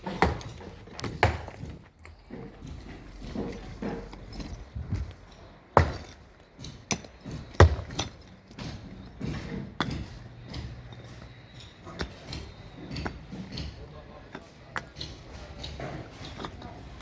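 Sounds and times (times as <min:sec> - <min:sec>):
construction knocks and thuds: 0:00.0 - 0:17.0.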